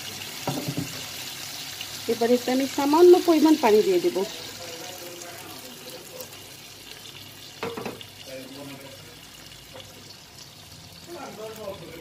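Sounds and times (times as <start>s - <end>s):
curry sizzling and bubbling in a pan: 0.0s - 12.0s.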